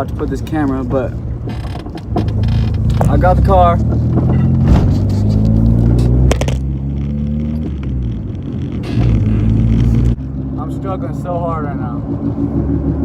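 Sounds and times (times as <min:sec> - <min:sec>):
car engine hum from inside: 0:00.0 - 0:13.0.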